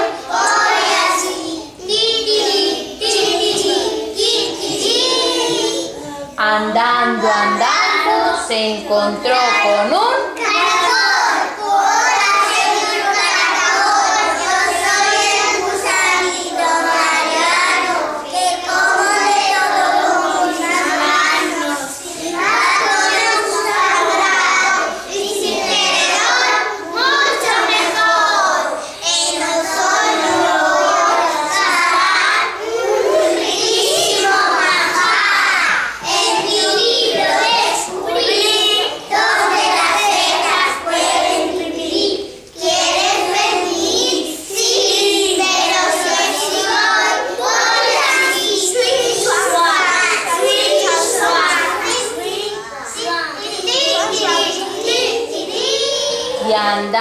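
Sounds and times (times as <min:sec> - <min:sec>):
young children singing: 0:00.0 - 0:57.0.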